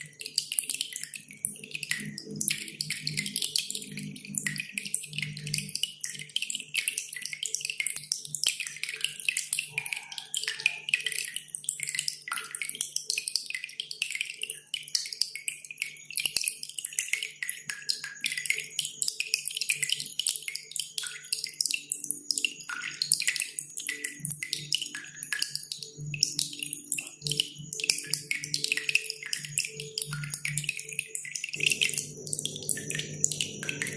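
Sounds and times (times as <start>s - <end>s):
dripping water: 0.0s - 33.9s.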